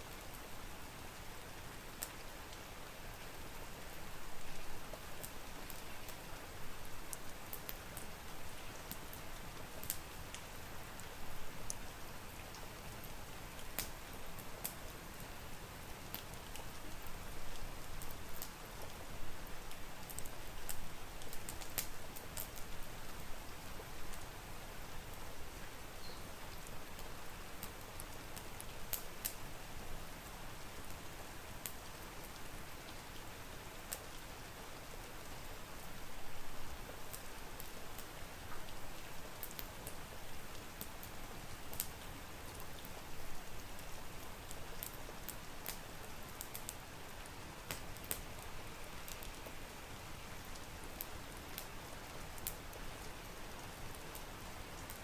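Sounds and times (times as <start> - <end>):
crackling wood fire: 0.0 - 55.0
steady rain: 0.0 - 55.0.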